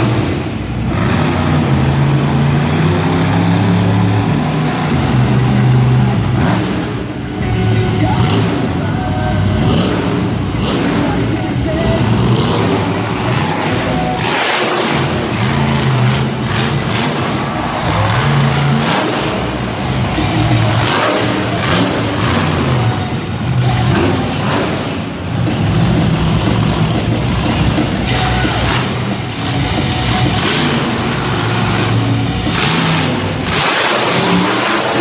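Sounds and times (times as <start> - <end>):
monster truck engine revving: 0.0 - 35.0
music over sound system: 4.9 - 35.0.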